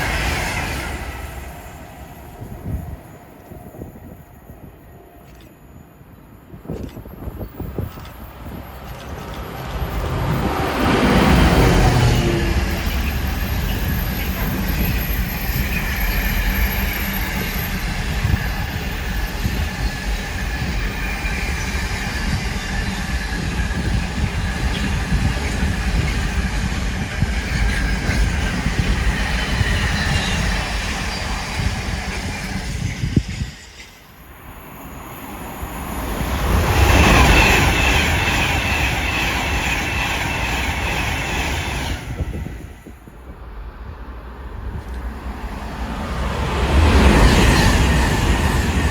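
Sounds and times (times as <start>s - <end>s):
train wheels rumbling on rails: 0.0s - 5.6s, 6.2s - 48.9s.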